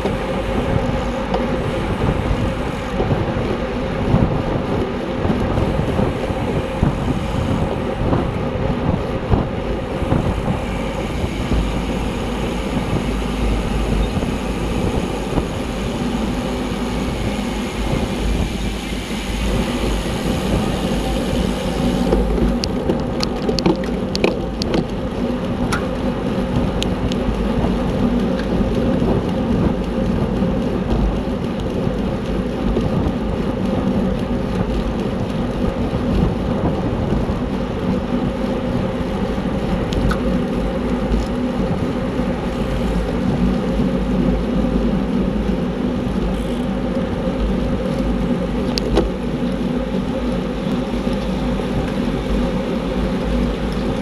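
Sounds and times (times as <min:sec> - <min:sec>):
bike tyres and drivetrain hum: 0:00.0 - 0:54.0
wind and road noise: 0:00.0 - 0:54.0.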